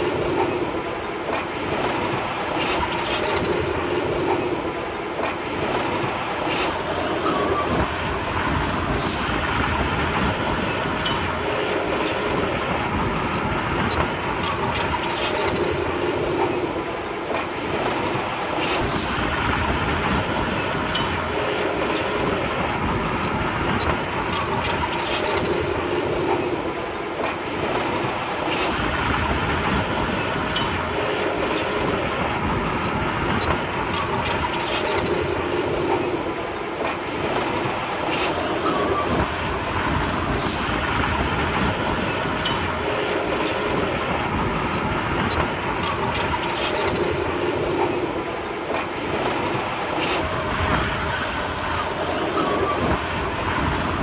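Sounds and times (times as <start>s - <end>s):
track clanks: 0.0s - 54.0s.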